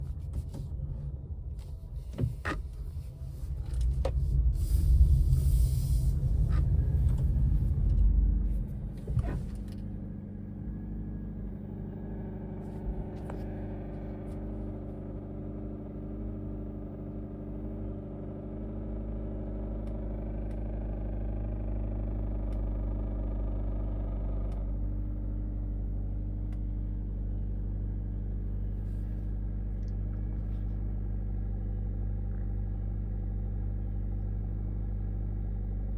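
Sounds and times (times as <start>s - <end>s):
engine running hum: 0.0s - 35.9s
loud low engine rumble: 0.0s - 35.9s.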